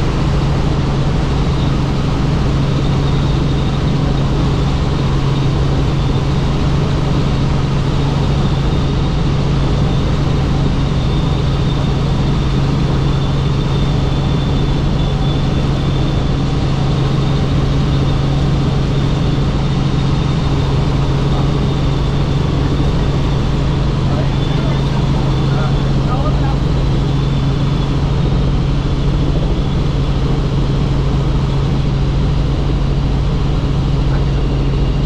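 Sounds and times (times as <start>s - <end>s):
faint high whine: 0.0s - 35.0s
helicopter rotor drone: 0.0s - 35.0s.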